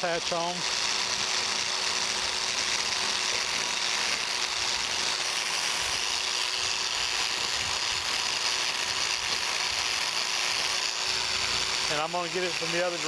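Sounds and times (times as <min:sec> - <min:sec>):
constant hum: 0:00.0 - 0:13.0
power scraper rasping on metal: 0:00.0 - 0:13.0.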